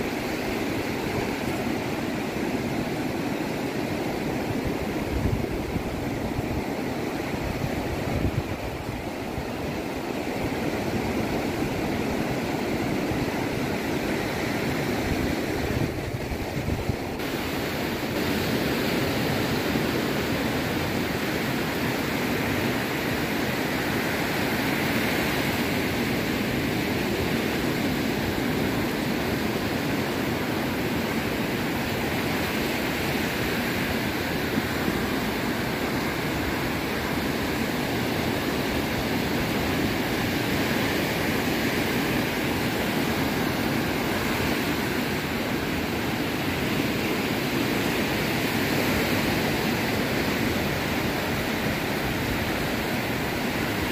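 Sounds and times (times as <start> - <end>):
waves washing on beach: 0.0 - 53.9.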